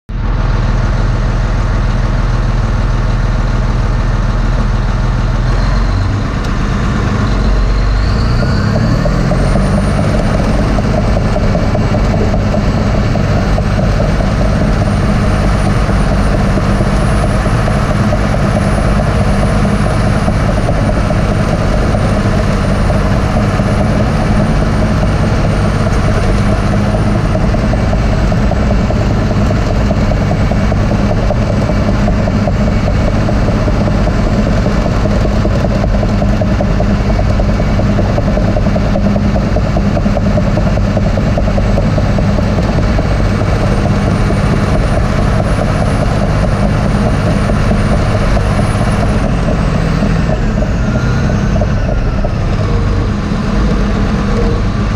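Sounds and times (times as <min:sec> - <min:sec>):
bulldozer diesel engine revving: 0:00.1 - 0:54.9.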